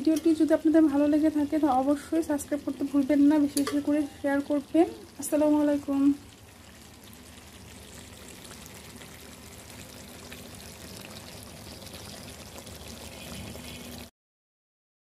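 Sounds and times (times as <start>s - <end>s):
meat sizzling with crackles: 0.0s - 14.1s.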